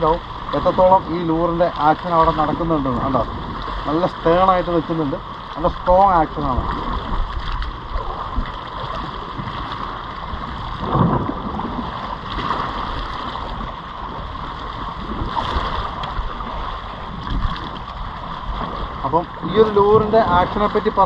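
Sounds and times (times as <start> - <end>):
sea waves washing: 0.0 - 21.0
wind buffeting microphone: 0.0 - 21.0.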